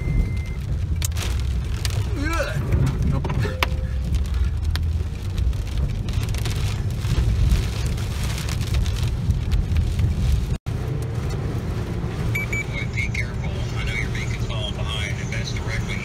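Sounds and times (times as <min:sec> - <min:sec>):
rain on vehicle roof: 0:00.0 - 0:16.0
road and engine rumble: 0:00.0 - 0:16.0.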